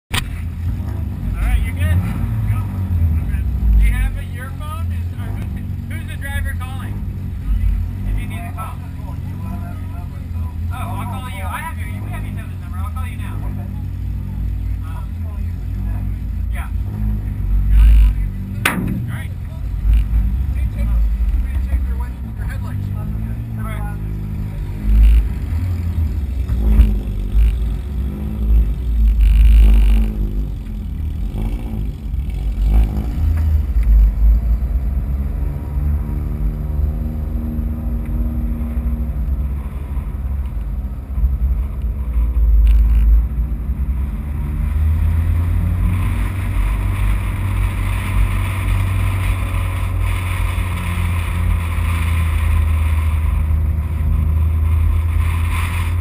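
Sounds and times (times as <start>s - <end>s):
race car engine revving: 0.1s - 56.0s
wind and road noise: 0.1s - 56.0s.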